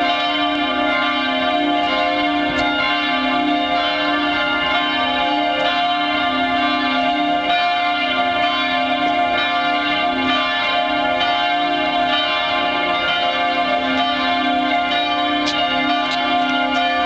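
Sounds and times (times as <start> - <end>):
church bells ringing in full peal: 0.0 - 17.0.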